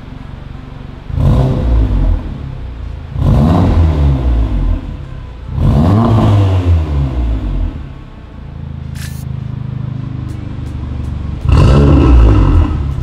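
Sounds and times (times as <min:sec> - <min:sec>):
car engine revving: 0:00.8 - 0:13.0.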